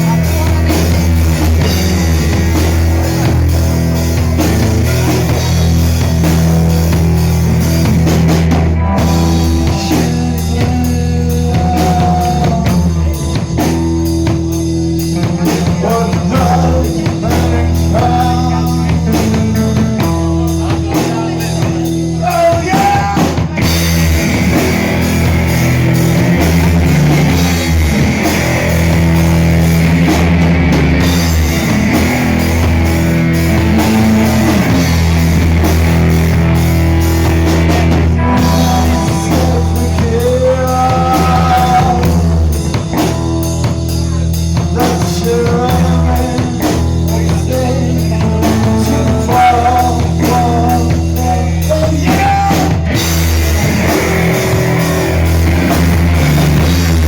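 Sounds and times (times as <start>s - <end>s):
rock music with guitar and drums: 0.0s - 57.0s.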